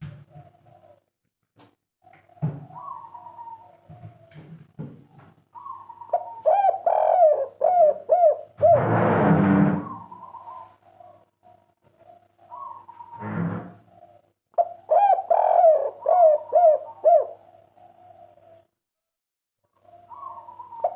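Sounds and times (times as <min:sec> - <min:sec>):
dove cooing: 0:00.0 - 0:01.0, 0:02.0 - 0:09.0, 0:09.8 - 0:13.2, 0:13.9 - 0:18.7, 0:19.7 - 0:20.9.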